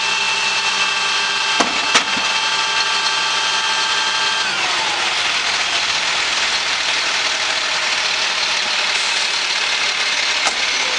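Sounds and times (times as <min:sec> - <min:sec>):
garbage truck engine idling: 0:00.0 - 0:10.9.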